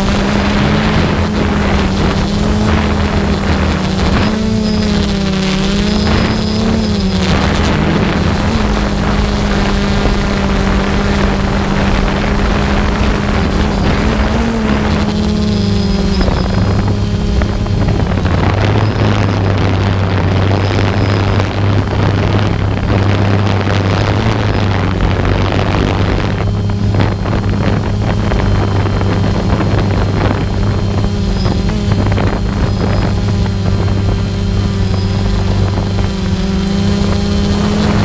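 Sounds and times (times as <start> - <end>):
aircraft propeller drone: 0.0 - 38.0
deep steady hum: 0.0 - 38.0
wind noise on microphone: 0.0 - 38.0.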